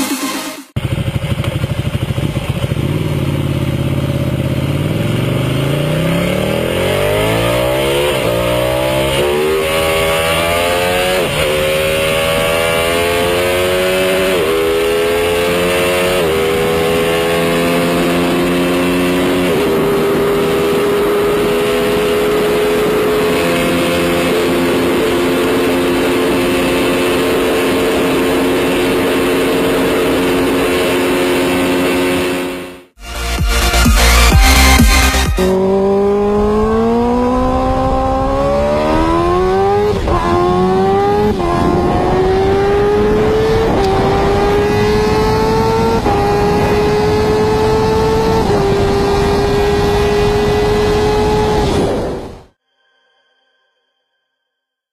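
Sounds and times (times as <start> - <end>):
motorcycle engine accelerating: 0.0 - 52.6.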